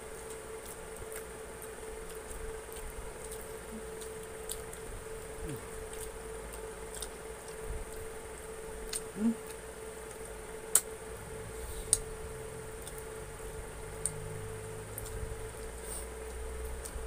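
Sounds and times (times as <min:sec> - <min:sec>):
people chewing food: 0:00.0 - 0:17.0
steady low hum: 0:00.0 - 0:17.0.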